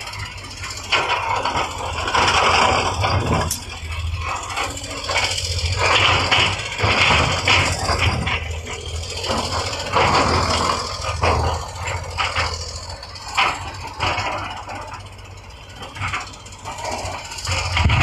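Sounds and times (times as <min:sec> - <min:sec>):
diesel engine running: 0:00.0 - 0:18.0
machine scraping and rattling: 0:00.0 - 0:18.0.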